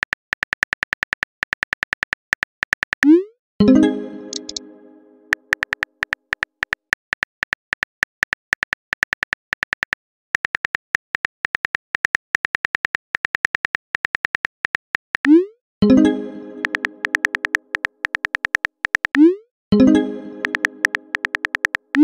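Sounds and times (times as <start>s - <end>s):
phone keyboard typing clicks: 0.0s - 3.2s, 4.3s - 4.6s, 5.3s - 15.4s, 16.6s - 19.3s, 20.4s - 22.0s.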